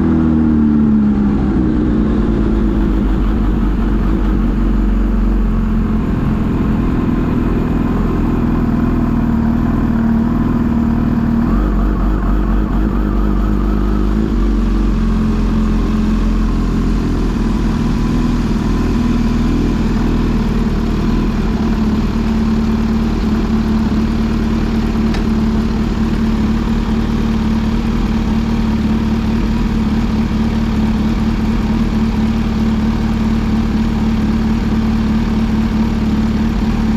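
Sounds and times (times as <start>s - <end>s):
loud low rumble: 0.0s - 30.2s
motorcycle engine running: 0.0s - 36.9s.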